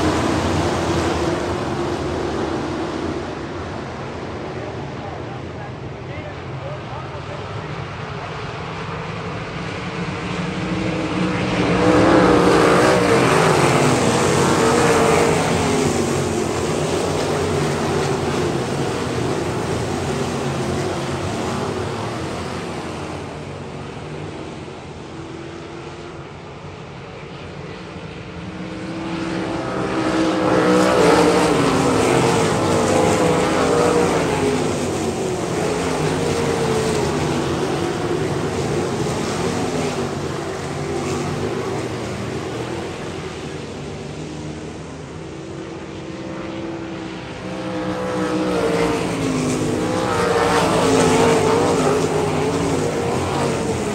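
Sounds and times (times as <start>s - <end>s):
race cars at full throttle: 0.0s - 53.9s.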